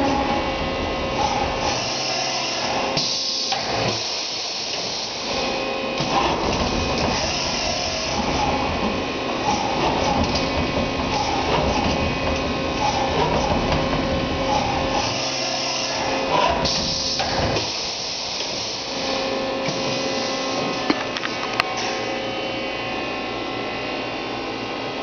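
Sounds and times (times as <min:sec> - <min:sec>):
machine hum and hiss: 0:00.0 - 0:25.0
machine axes whirring: 0:01.1 - 0:22.0.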